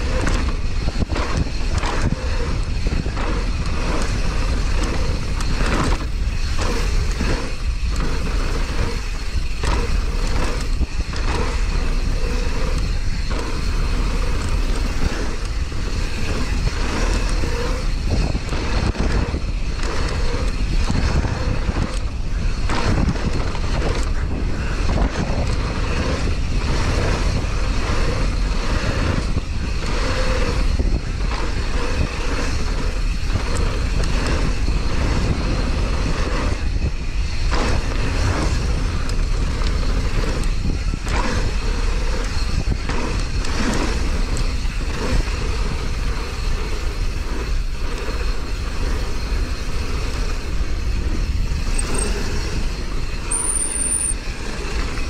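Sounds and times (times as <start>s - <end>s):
bike rattling over bumps: 0.0s - 55.0s
wind rumble on microphone: 0.0s - 55.0s.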